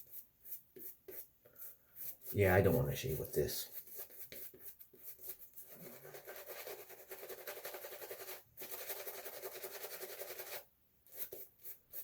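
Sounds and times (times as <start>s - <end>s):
shaving brush swirling lather: 0.0s - 12.0s.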